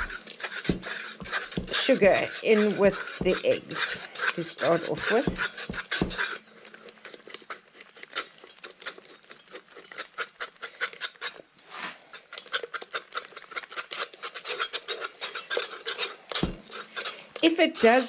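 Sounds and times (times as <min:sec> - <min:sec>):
whisk scraping a pot: 0:00.0 - 0:18.0.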